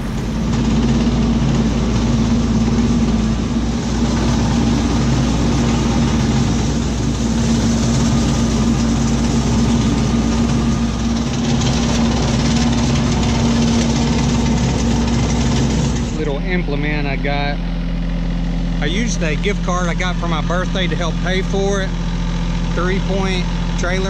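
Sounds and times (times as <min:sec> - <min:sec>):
rotary mower cutting brush: 0:00.0 - 0:17.4, 0:18.1 - 0:24.0
tractor engine running: 0:00.0 - 0:24.0.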